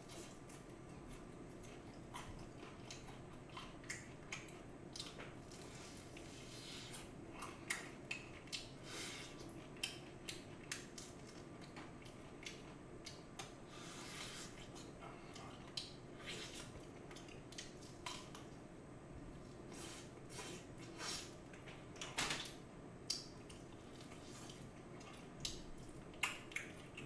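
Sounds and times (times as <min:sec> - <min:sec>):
crunchy fried chicken chewing: 0:00.0 - 0:18.5, 0:23.1 - 0:27.0.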